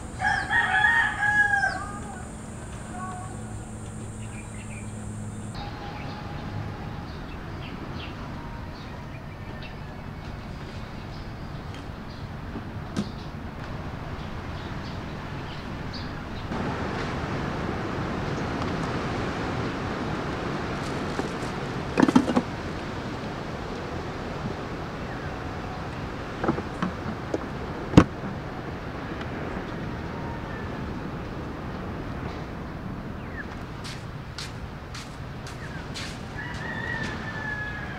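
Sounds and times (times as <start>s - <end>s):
outdoor background hum: 0.0s - 37.9s.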